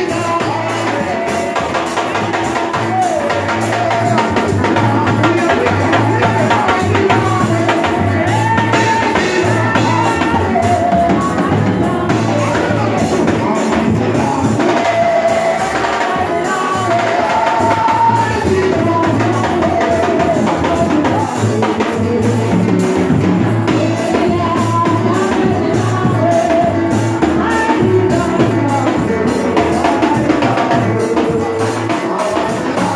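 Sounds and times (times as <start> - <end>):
drum kit: 0.0 - 32.9
gospel voices singing: 0.0 - 32.9
low bass notes: 0.0 - 32.9.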